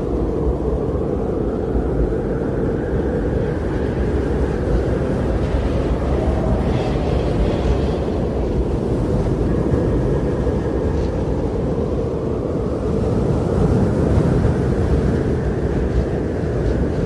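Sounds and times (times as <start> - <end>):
blizzard wind roaring: 0.0 - 17.0.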